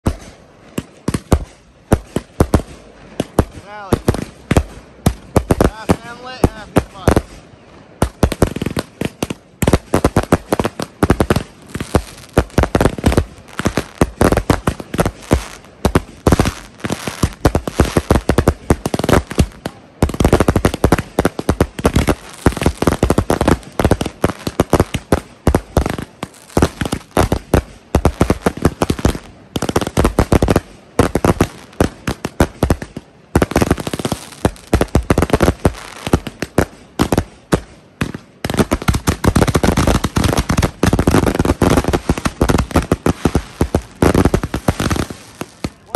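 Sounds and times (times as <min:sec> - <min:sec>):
fireworks booming and crackling: 0:00.0 - 0:45.9.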